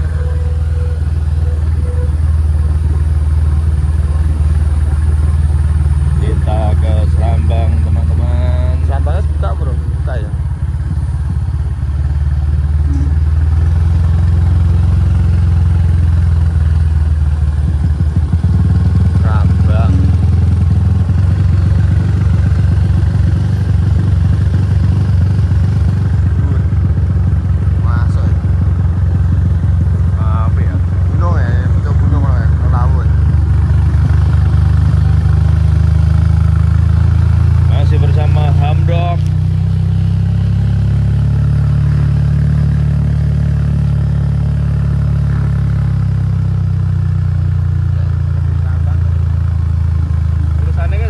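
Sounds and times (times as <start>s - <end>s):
motorcycle engine rumbling: 0.0s - 51.0s.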